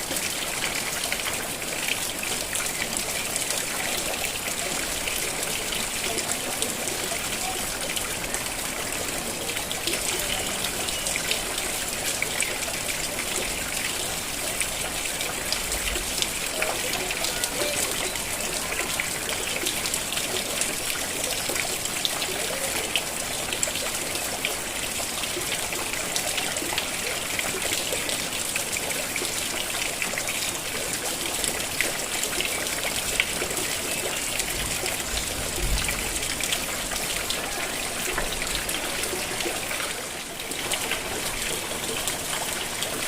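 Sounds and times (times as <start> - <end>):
steady rain falling: 0.0 - 43.0
trickling runoff water: 0.0 - 43.0.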